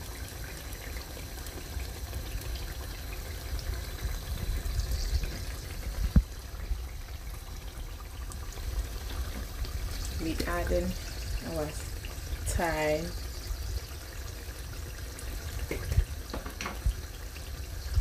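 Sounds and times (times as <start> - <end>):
stew simmering and bubbling in a pan: 0.0 - 18.0.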